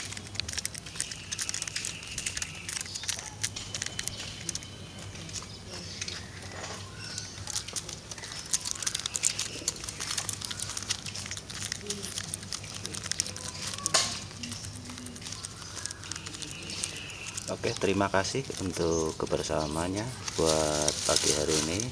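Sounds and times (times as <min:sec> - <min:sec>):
pigeons pecking corn: 0:00.0 - 0:21.9.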